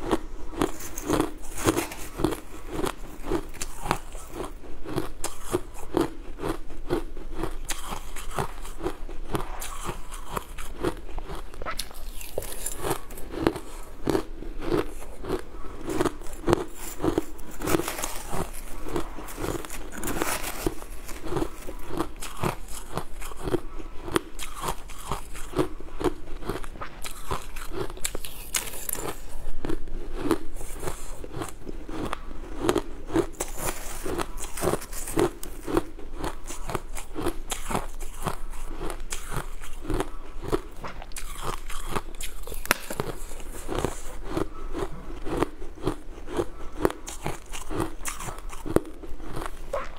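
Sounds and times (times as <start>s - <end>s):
crushed ice being chewed: 0.0s - 49.9s.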